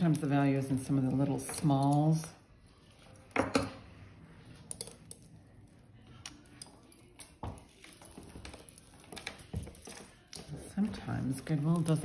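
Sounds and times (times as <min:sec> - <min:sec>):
metal jewelry clinking: 0:00.0 - 0:12.0.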